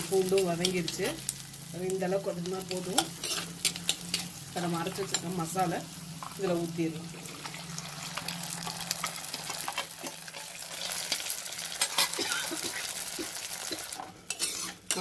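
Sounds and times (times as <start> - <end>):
paste sizzling in hot oil: 0.0 - 15.0.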